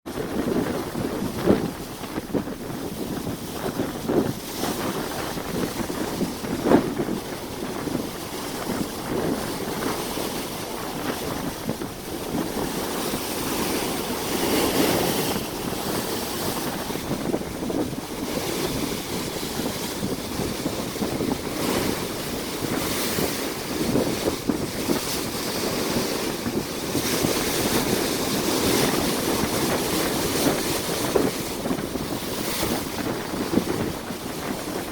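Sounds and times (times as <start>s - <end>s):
wind buffeting microphone: 0.0s - 34.9s
ocean waves breaking over rocks: 0.1s - 34.9s.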